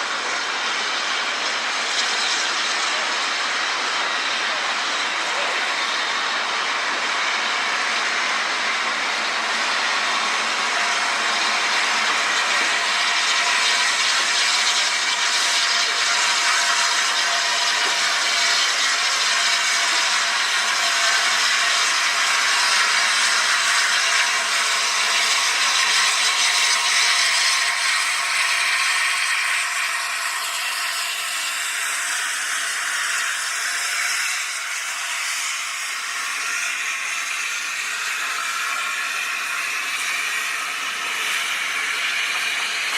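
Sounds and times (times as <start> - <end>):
train rushing: 0.0 - 42.9.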